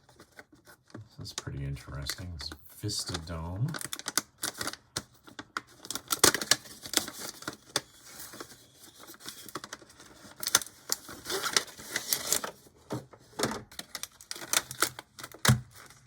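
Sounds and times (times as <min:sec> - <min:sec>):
packaging rustling: 0:01.9 - 0:16.0.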